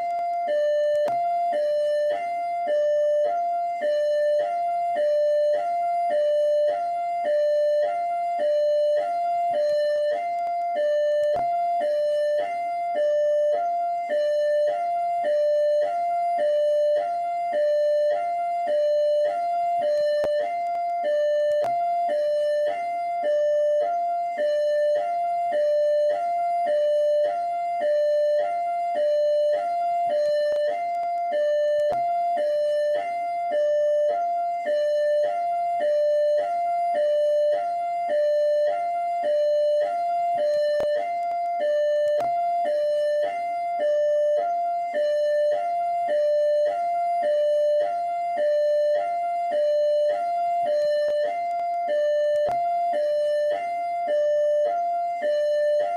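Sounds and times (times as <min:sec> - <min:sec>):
hi-lo police siren: 0:00.0 - 0:55.9.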